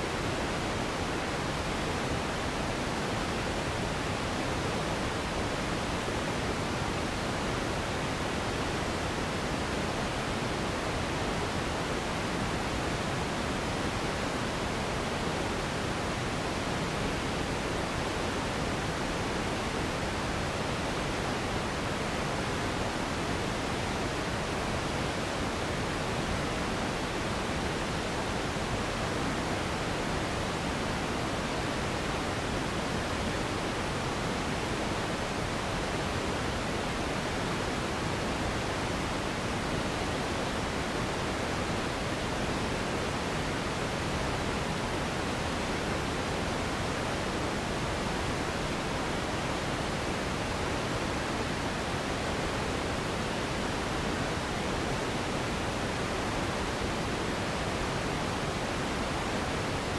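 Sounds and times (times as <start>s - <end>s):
steady hiss noise: 0.0s - 59.9s.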